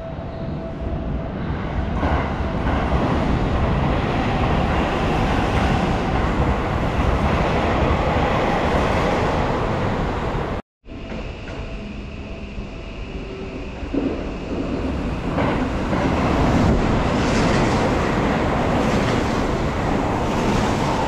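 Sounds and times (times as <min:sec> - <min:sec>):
electric train passing at speed: 0:00.0 - 0:21.0.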